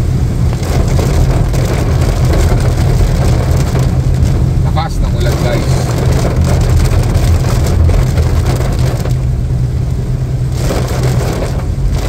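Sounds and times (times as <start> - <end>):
engine and tyres rumbling: 0.0 - 12.0
heavy rain drumming on a car: 0.0 - 12.0.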